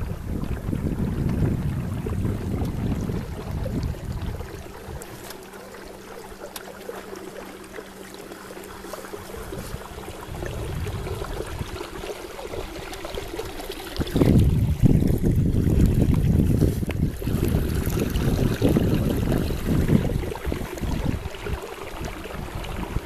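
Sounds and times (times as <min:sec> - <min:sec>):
wind buffeting microphone: 0:00.0 - 0:05.5, 0:08.8 - 0:23.0
water lapping against canoe hull: 0:00.0 - 0:23.0.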